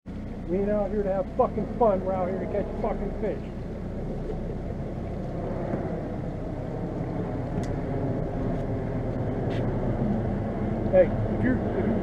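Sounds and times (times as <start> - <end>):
boat engine droning: 0.1 - 12.0.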